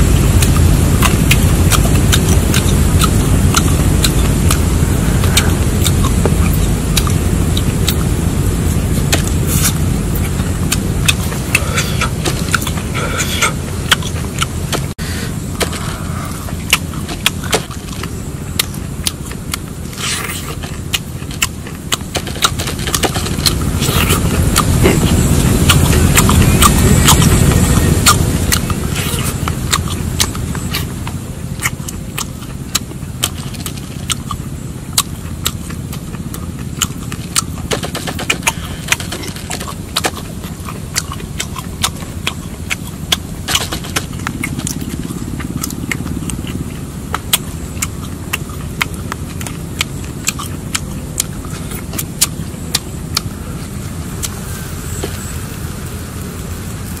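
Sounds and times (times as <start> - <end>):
low rumble: 0.0 - 57.0
wet crunchy chewing: 0.0 - 57.0.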